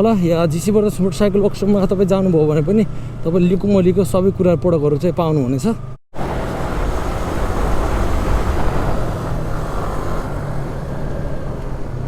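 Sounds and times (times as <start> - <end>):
motorcycle engine humming: 0.0 - 12.0
wind and road noise: 0.0 - 12.0.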